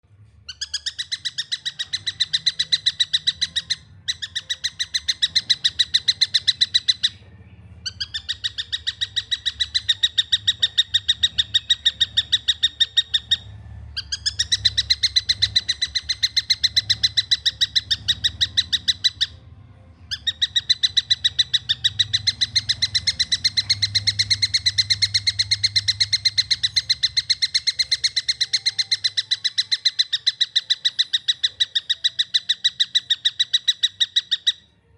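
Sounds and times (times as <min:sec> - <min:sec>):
faint low hum: 0:00.0 - 0:34.9
kingfisher shrill calls: 0:00.5 - 0:07.2, 0:07.9 - 0:19.4, 0:20.1 - 0:34.6.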